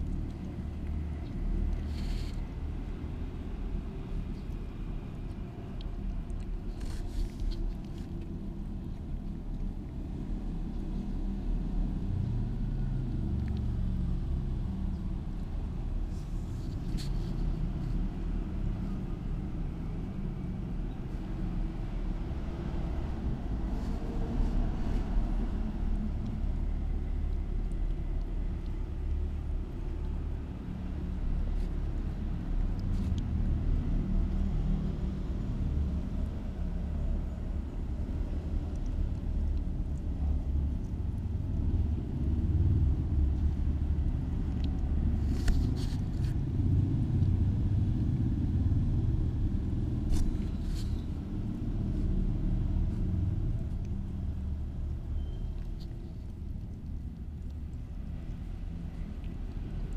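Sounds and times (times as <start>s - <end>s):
low steady rumble: 0.0s - 59.9s.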